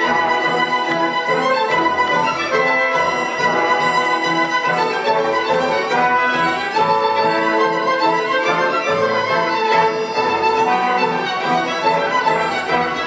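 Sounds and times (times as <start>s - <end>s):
orchestra playing dance music: 0.0s - 13.0s.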